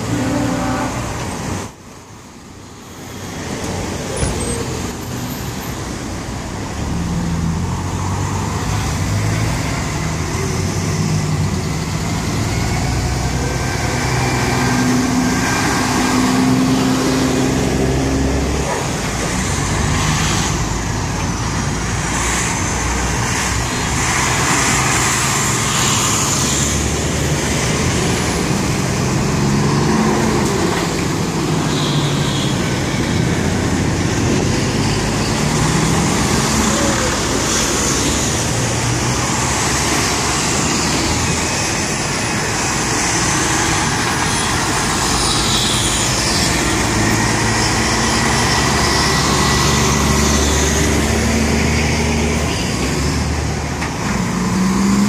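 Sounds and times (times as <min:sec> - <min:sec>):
cars passing: 0:00.0 - 0:55.0
heavy diesel trucks driving past: 0:00.0 - 0:55.0.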